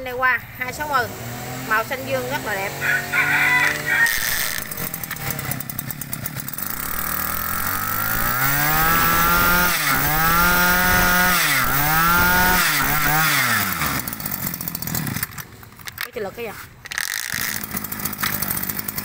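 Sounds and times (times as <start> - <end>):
brush-cutter engine running fast: 0.7 - 15.5, 16.9 - 19.0.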